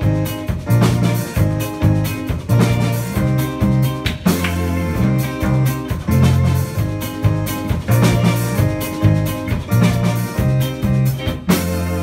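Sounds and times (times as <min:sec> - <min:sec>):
bass guitar: 0:00.0 - 0:12.0
drum kit and cymbals: 0:00.0 - 0:12.0
electric guitar: 0:00.0 - 0:12.0
keyboard: 0:00.0 - 0:12.0.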